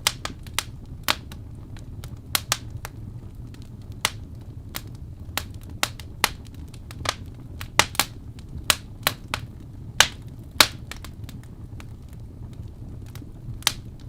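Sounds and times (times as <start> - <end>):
low rumble of flames: 0.0 - 14.0
wood fire crackling: 0.0 - 14.0.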